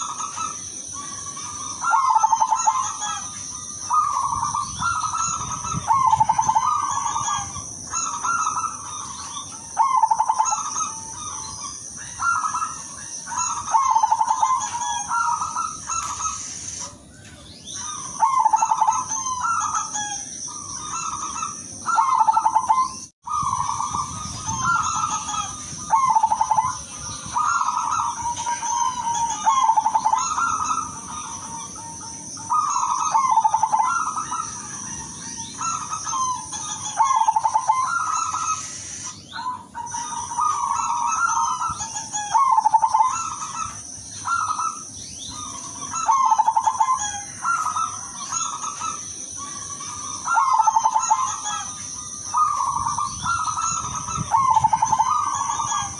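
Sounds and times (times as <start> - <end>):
dove cooing: 0.0 - 55.9.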